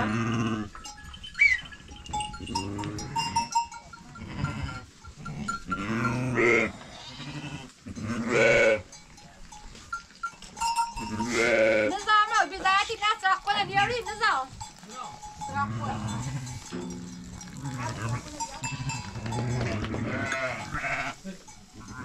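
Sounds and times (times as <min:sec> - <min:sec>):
livestock bells clinking: 0:00.0 - 0:06.8, 0:07.9 - 0:22.0
sheep and goats bleating: 0:00.0 - 0:22.0.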